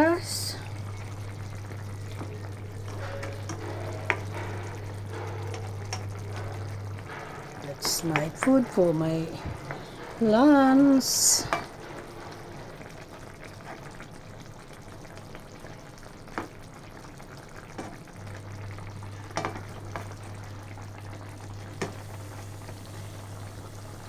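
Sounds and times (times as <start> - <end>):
food simmering with sizzling hiss: 0.0 - 24.0
low steady hum: 0.0 - 24.0.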